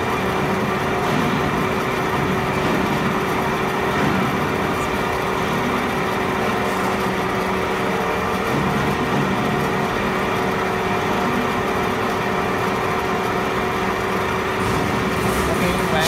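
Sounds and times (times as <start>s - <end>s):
mixer machine humming: 0.0s - 16.0s.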